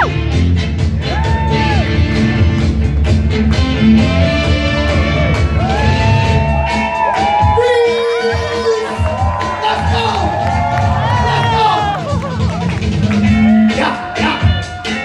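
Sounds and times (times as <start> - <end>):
dance music with heavy bass: 0.0 - 15.0.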